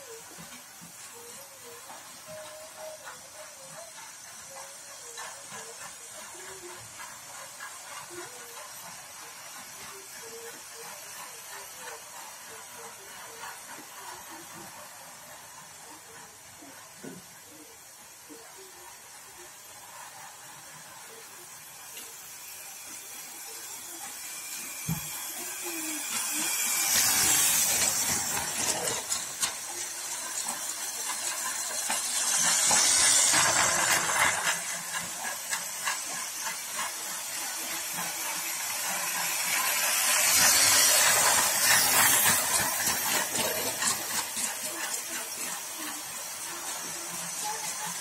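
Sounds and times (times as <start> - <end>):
toy train rattling on track: 0.0 - 48.0.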